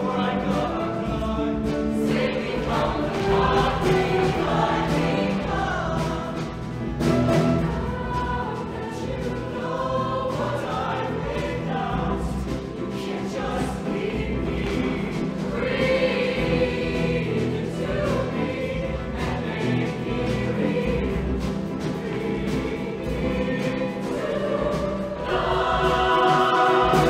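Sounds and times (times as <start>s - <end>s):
backing band: 0.0s - 27.0s
choir singing in harmony: 0.0s - 27.0s
drum hits: 0.4s - 27.0s.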